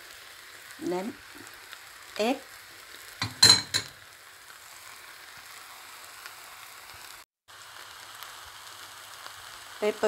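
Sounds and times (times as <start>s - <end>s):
noodles and egg sizzling in pan: 0.0s - 10.0s.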